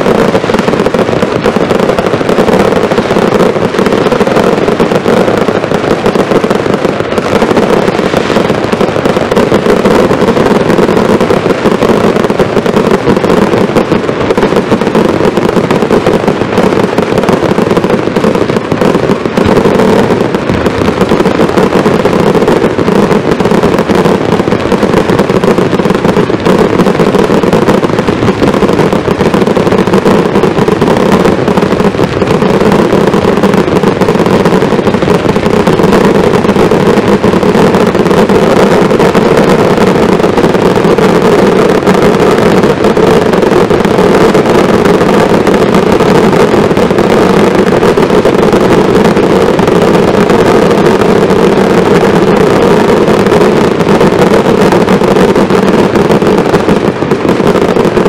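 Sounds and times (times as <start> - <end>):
fireworks barrage: 0.0 - 58.0.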